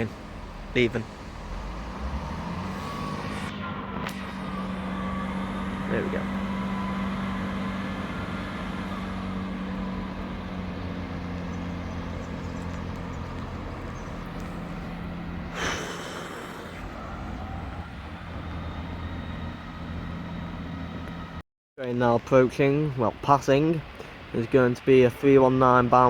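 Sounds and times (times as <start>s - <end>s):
train diesel engines running: 0.0s - 21.4s.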